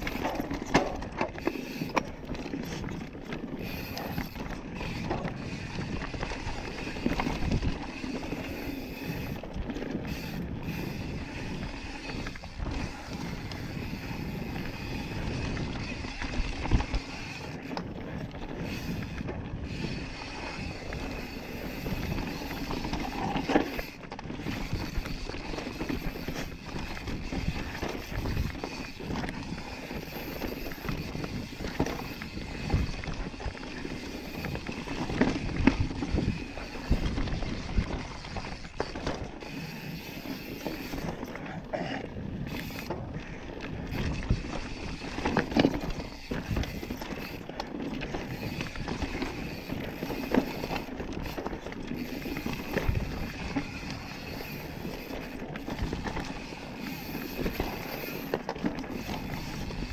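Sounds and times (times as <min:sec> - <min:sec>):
bike rattling and knocking: 0:00.0 - 0:59.9
bike tyres over dirt and stones: 0:00.0 - 0:59.9.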